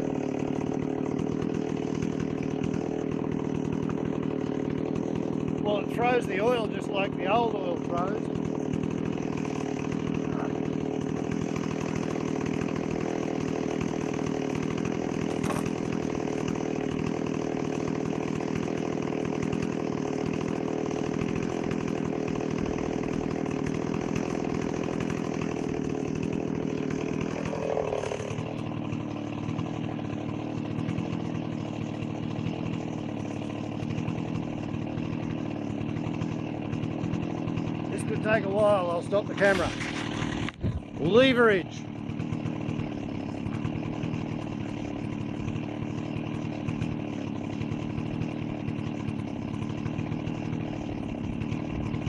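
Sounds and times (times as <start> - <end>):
chainsaw cutting tree trunk: 0.0 - 52.0.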